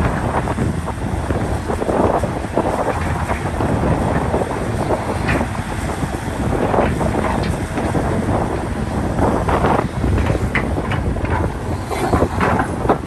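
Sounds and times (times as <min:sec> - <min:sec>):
excavator engine rumble: 0:00.0 - 0:13.0.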